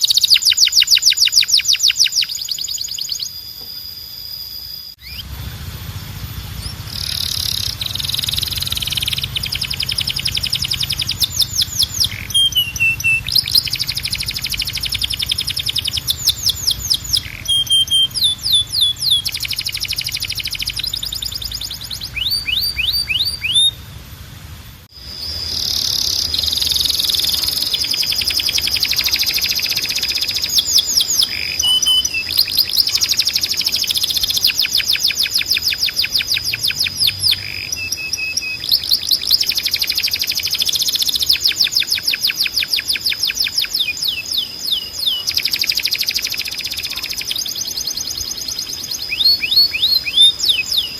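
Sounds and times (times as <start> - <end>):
canary singing trills: 0.0 - 24.2, 24.9 - 50.9.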